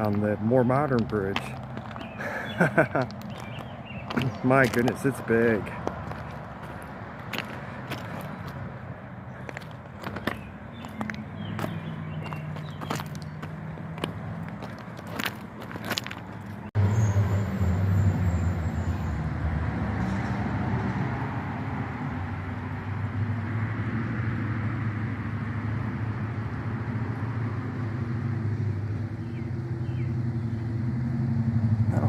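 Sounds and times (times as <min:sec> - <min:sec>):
car driving on road: 0:00.0 - 0:32.0.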